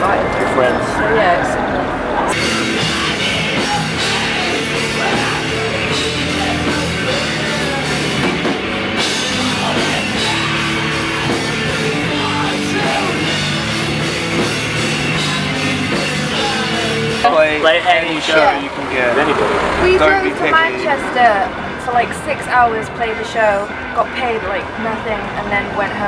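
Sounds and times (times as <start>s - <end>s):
loud rock music: 2.3s - 24.8s.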